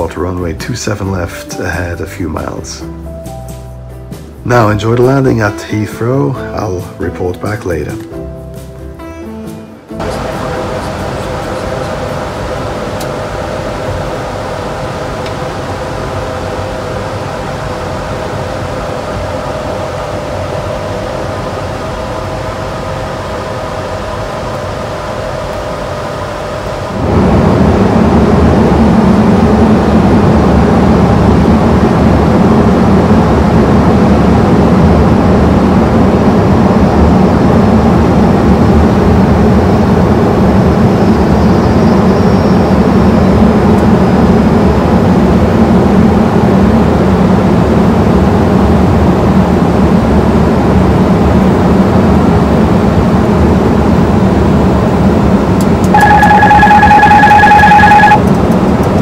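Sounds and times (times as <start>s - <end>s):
airflow and engine noise: 0.0s - 59.0s
deep drone: 0.0s - 59.0s
faint hum tones: 0.0s - 59.0s.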